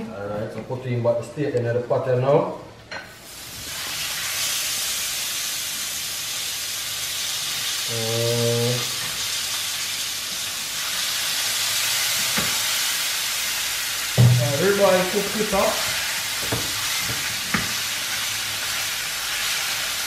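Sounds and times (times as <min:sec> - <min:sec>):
steak sizzling in a frying pan: 0:03.2 - 0:20.0.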